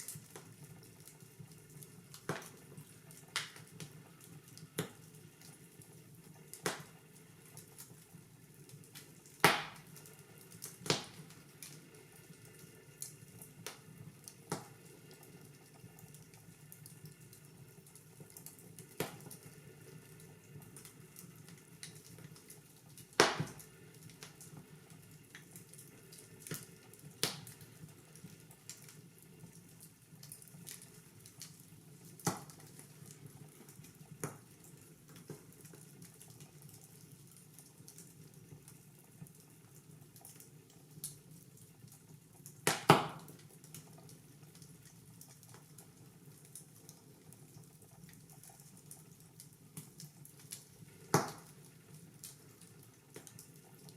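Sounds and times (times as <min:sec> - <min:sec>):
faint steady hiss: 0:00.0 - 0:53.9
wood fire crackling and popping: 0:00.0 - 0:53.9.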